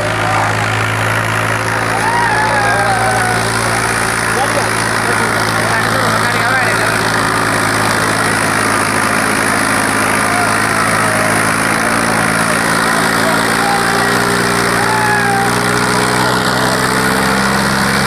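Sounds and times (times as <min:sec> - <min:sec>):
diesel tractor engine under load: 0:00.0 - 0:18.0.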